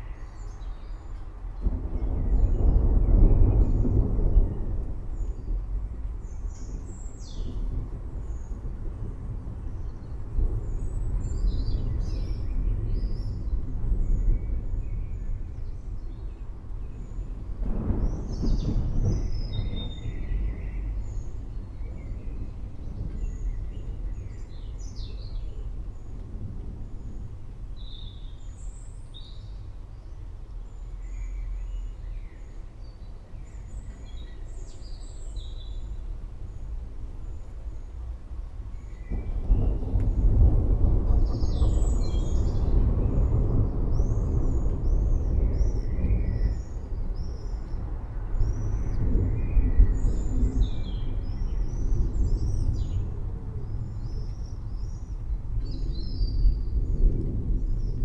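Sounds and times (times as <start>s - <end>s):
thunderstorm rumble: 0.0s - 58.0s.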